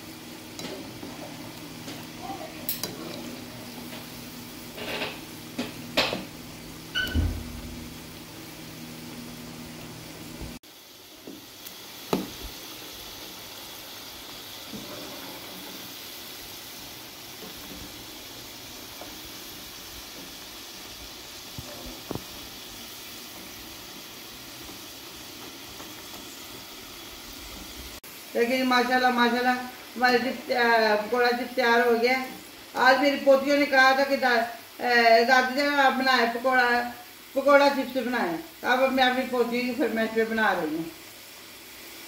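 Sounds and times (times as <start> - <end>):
oil sizzling: 0.0 - 42.0.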